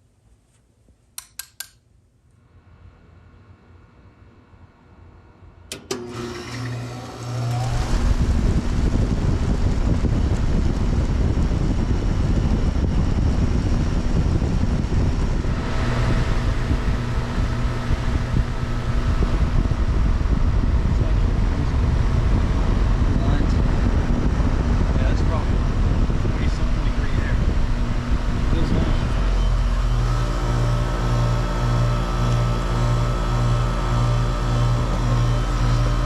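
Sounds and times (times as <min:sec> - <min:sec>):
compressor and fan running: 0:01.2 - 0:36.0
short low hum: 0:02.4 - 0:36.0.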